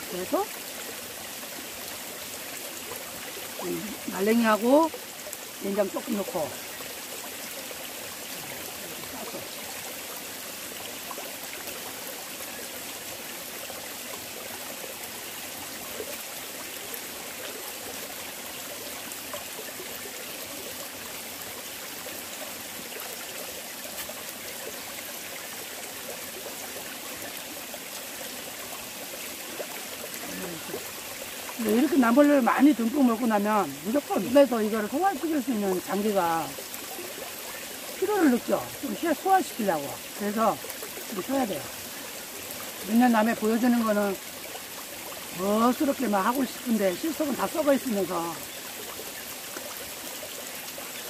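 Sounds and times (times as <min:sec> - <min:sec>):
stream flowing: 0:00.0 - 0:51.0.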